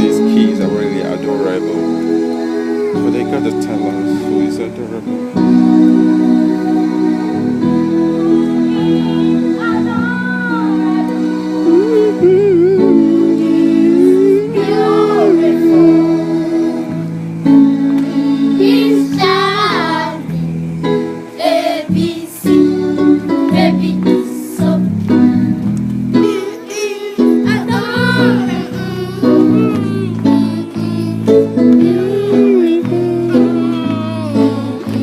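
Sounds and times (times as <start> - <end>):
song with sung melody: 0.0 - 35.0.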